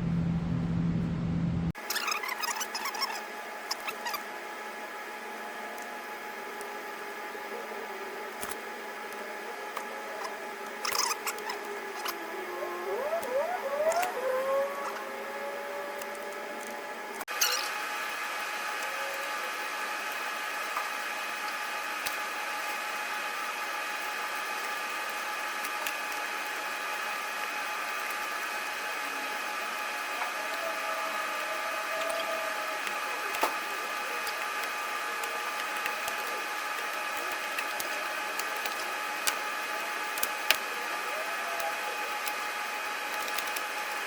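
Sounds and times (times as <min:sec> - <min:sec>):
steady whine: 0:00.0 - 0:44.0.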